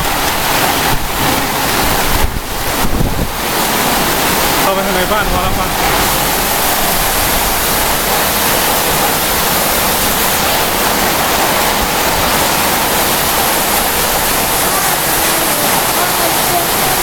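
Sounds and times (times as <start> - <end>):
strong storm wind: 0.0 - 17.0.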